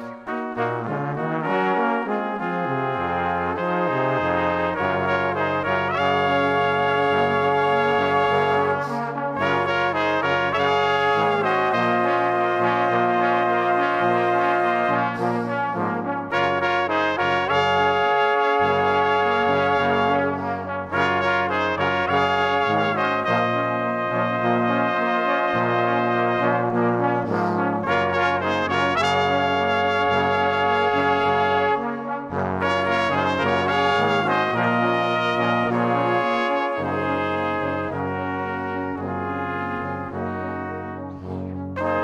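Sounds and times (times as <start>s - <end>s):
brass-like chords music: 0.0s - 42.0s.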